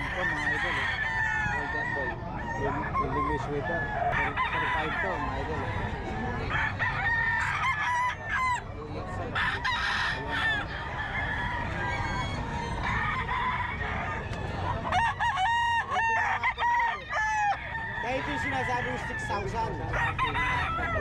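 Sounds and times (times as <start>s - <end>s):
roosters crowing: 0.0s - 21.0s.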